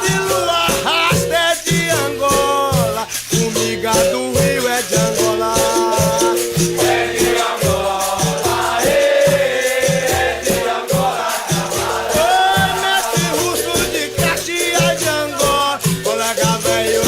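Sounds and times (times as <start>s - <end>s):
drum beat: 0.0s - 17.0s
group singing call and response: 0.0s - 17.0s
shaken rattle: 0.0s - 17.0s.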